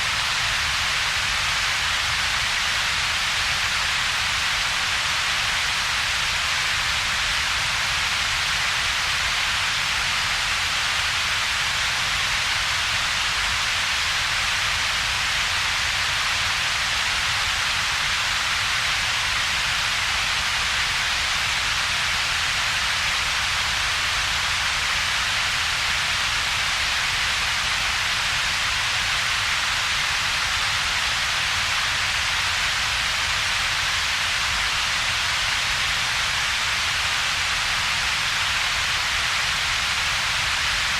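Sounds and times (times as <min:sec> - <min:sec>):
synthesized hiss: 0:00.0 - 0:40.9.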